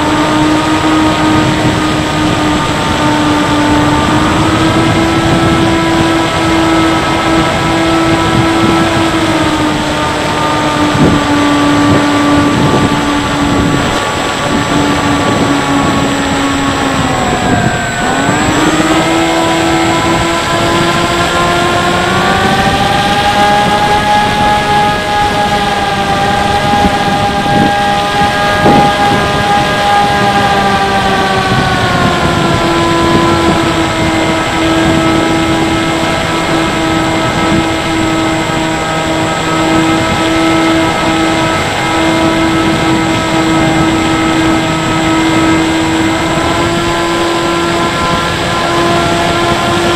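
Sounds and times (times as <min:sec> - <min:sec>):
electric motor propeller whine: 0:00.0 - 0:49.9
wind rush: 0:00.0 - 0:49.9.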